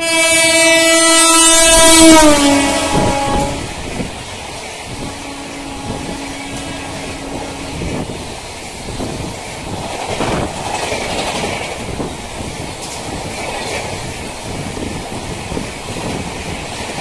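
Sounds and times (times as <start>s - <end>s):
rush of wheels on rails: 0.0s - 17.0s.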